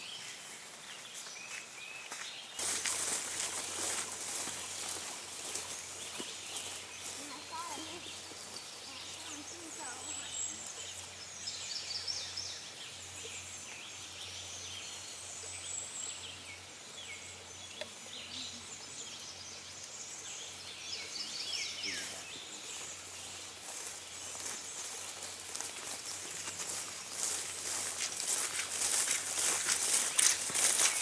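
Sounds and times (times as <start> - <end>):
faint background noise: 0.0 - 31.0
songbirds chirping: 0.0 - 31.0.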